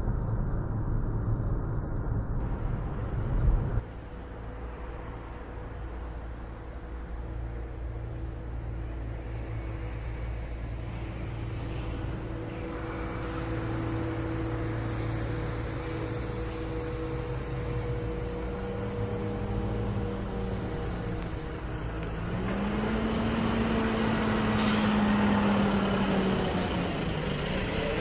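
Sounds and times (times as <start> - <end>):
truck diesel engine hum: 2.2 - 28.0.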